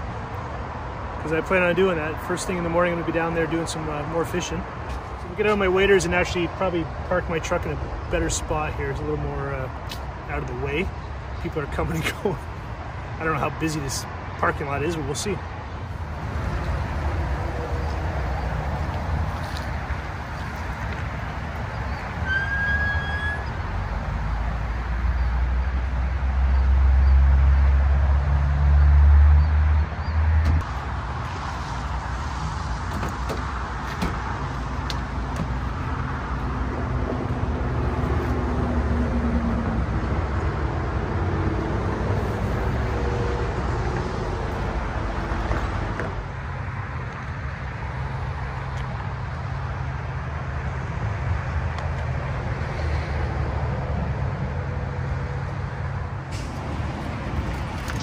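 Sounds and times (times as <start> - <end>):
highway traffic: 0.0 - 58.0.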